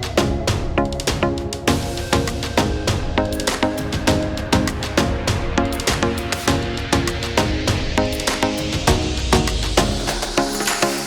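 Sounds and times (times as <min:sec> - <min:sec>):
background music with percussive beat: 0:00.0 - 0:11.0.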